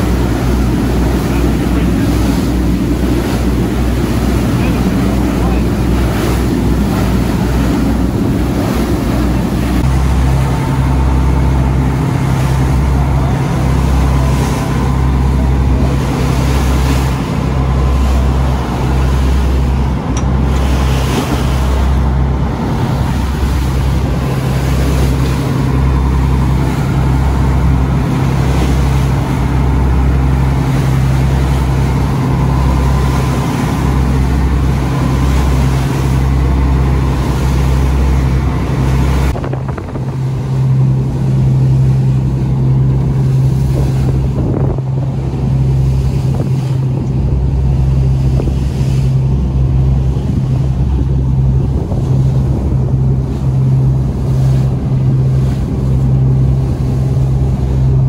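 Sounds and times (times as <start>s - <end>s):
boat engine droning: 0.0s - 58.0s
water rushing along hull: 0.0s - 58.0s
wind on microphone: 0.0s - 58.0s.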